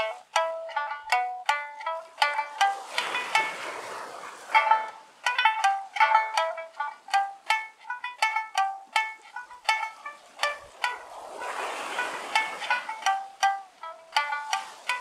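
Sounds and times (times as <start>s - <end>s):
plucked lute melody: 0.0s - 15.0s
wave washing on shore: 0.0s - 15.0s.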